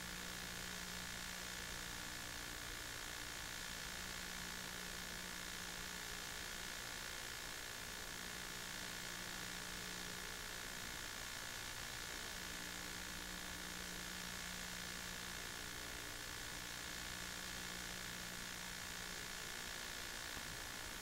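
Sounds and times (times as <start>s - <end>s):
faint electrical hum: 0.0s - 21.0s.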